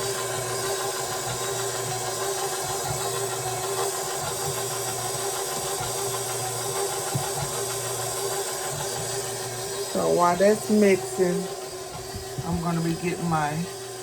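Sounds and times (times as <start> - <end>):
stand mixer beating batter: 0.0 - 14.0.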